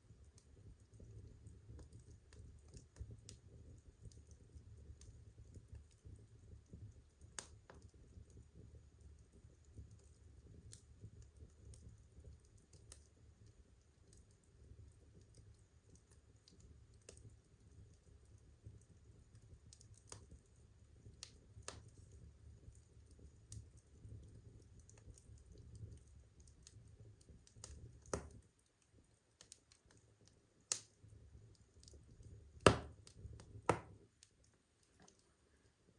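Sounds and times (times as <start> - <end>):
firewood crackling and popping: 0.1 - 35.4.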